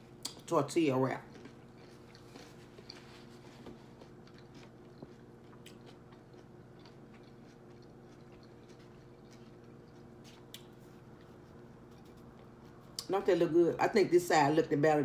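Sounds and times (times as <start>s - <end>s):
chewing food: 0.0s - 13.1s
steady low hum: 0.0s - 15.0s.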